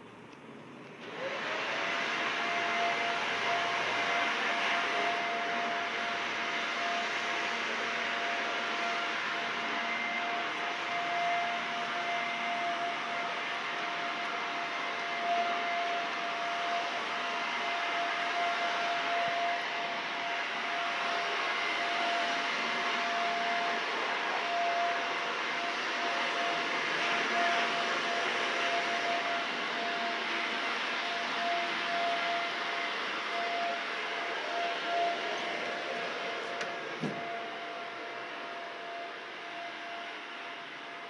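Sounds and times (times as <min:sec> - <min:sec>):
machine whirring with whine: 0:00.0 - 0:41.0.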